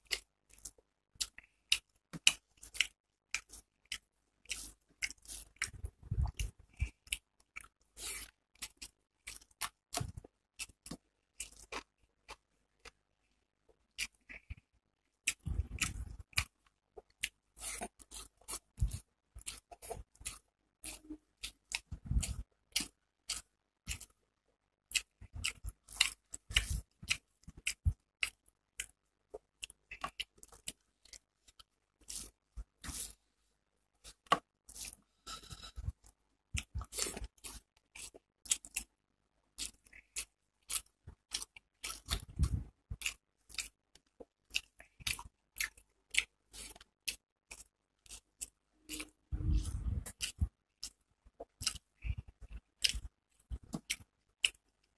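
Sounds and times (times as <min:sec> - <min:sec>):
person chewing with mouth smacks: 0:00.0 - 0:13.0, 0:13.7 - 0:24.2, 0:24.9 - 0:33.2, 0:35.8 - 0:38.9, 0:39.5 - 0:54.9.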